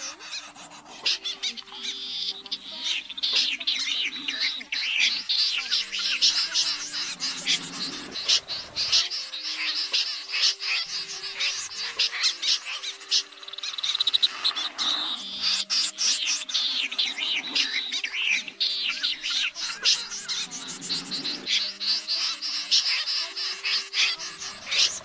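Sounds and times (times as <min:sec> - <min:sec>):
snipe calls: 0:00.0 - 0:25.0.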